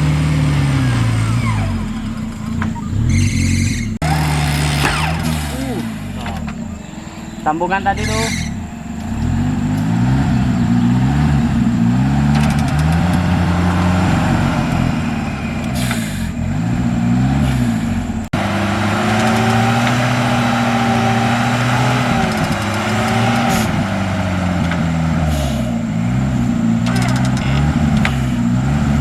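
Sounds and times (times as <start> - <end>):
off-road engine revving under load: 0.0 - 29.0.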